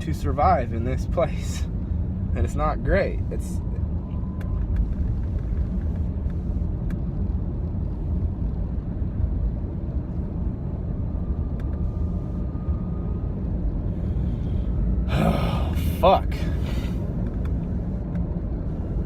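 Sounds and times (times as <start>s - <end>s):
car rumbling while moving: 0.0s - 19.0s.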